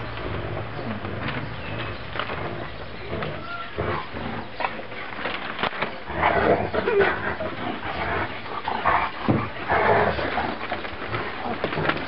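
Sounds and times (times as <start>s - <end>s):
puppies shuffling: 0.0s - 12.0s.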